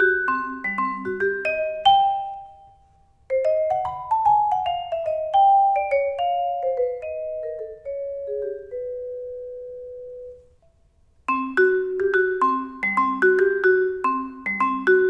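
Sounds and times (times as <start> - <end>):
vibraphone chords: 0.0 - 10.4, 11.3 - 15.0
vibraphone melody: 0.0 - 10.4, 11.3 - 15.0.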